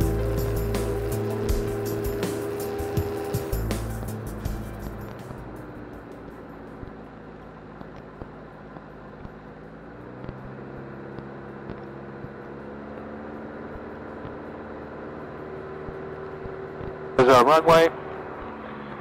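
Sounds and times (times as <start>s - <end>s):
aircraft engine and propeller droning: 0.0s - 19.0s.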